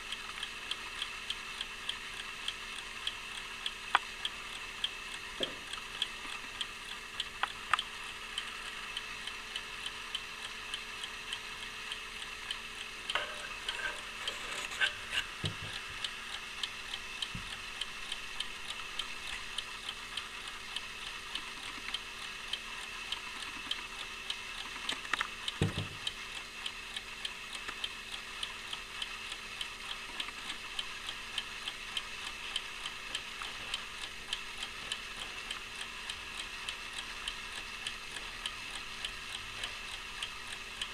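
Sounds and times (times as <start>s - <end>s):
clock ticking rapidly: 0.0s - 40.9s.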